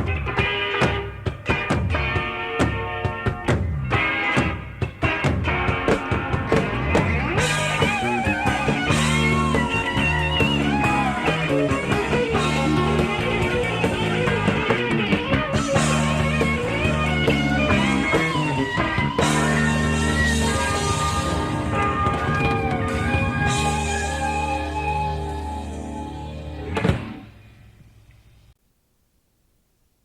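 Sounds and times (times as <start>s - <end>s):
rock band playing: 0.0s - 27.2s
electric lead guitar: 0.0s - 27.6s.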